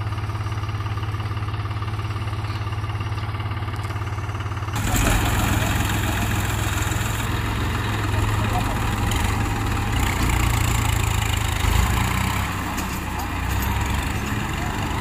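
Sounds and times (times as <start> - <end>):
tractor diesel engines: 0.0 - 15.0.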